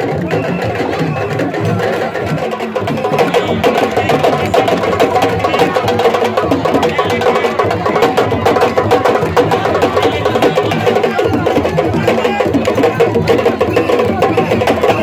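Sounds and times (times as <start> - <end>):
fast percussion drumming: 0.0 - 15.0.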